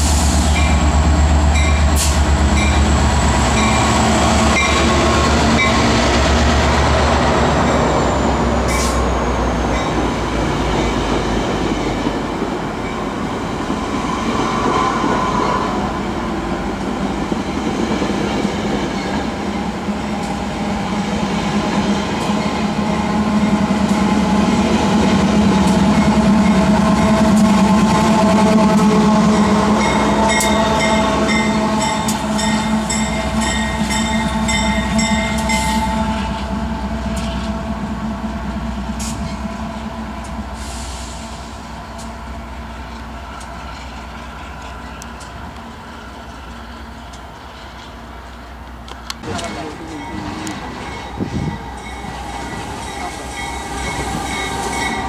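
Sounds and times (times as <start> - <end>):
locomotive passing: 0.0 - 55.0
train wheel and rail noise: 0.0 - 55.0.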